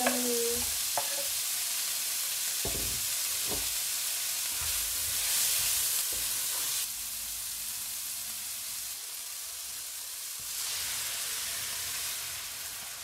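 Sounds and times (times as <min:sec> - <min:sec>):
vegetables sizzling in a wok: 0:00.0 - 0:13.0.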